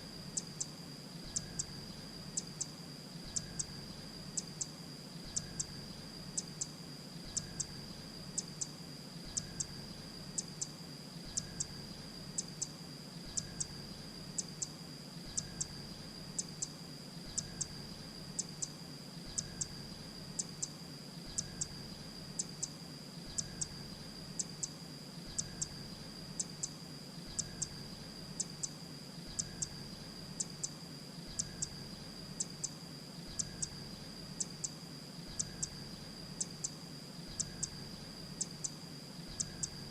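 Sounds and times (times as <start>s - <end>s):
steady high-pitched whine: 0.0s - 39.9s.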